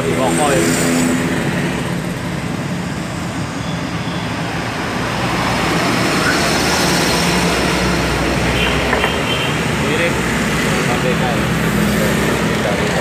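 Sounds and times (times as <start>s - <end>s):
passing vehicle rumble: 0.0s - 13.0s
road traffic noise: 0.0s - 13.0s.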